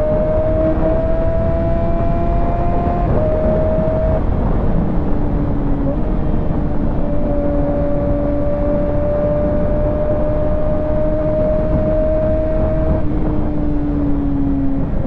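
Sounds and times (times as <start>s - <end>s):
motorcycle engine at speed: 0.0s - 15.0s
wind and road rush: 0.0s - 15.0s.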